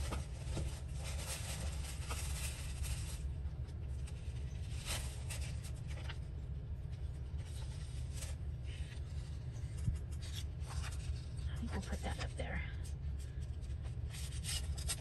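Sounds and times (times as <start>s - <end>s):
paper rustling: 0.0s - 3.3s, 4.0s - 6.3s, 7.0s - 12.3s, 13.6s - 15.0s
low hum: 0.0s - 15.0s.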